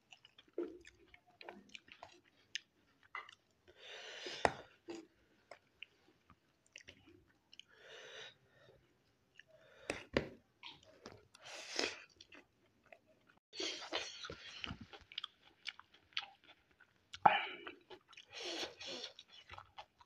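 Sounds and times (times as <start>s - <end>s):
person chewing noodles: 0.0s - 7.9s, 8.9s - 20.0s.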